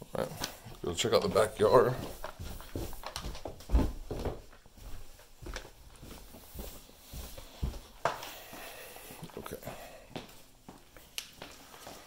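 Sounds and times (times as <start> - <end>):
footsteps on carpeted stairs: 0.4 - 12.0.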